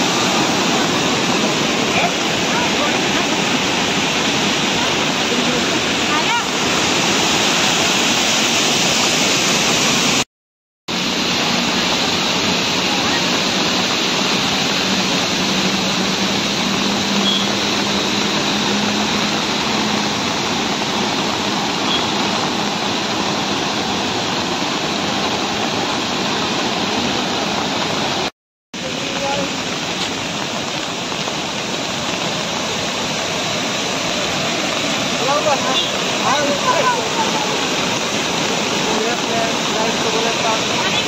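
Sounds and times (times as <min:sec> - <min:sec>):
rush of a waterfall: 0:00.0 - 0:10.3, 0:10.9 - 0:41.0.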